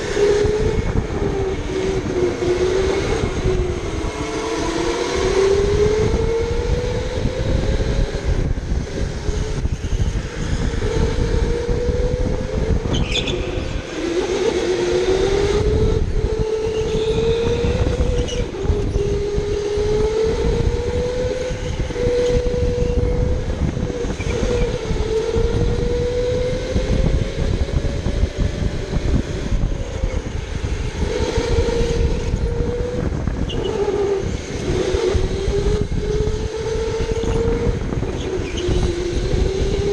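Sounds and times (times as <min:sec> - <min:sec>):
electric go-kart motor whining: 0:00.0 - 0:39.9.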